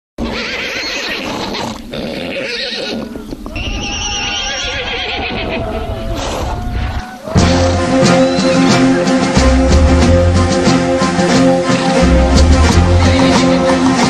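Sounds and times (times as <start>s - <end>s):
horses neighing: 0.2s - 9.3s, 11.6s - 14.0s.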